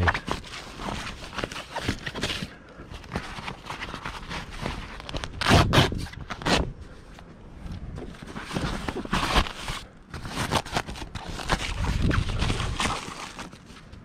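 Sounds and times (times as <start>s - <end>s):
canvas rustling and scraping: 0.0s - 14.0s.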